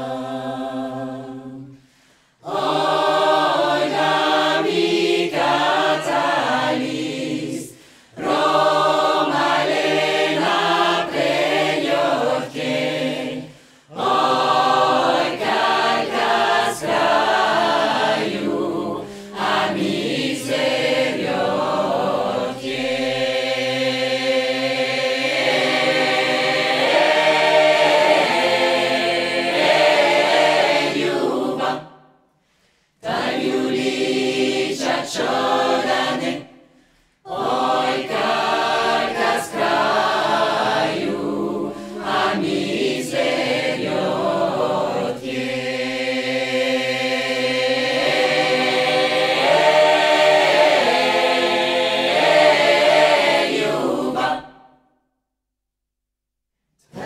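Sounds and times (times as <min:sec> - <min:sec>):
a cappella choir singing: 0:00.0 - 0:55.0, 0:56.8 - 0:57.0.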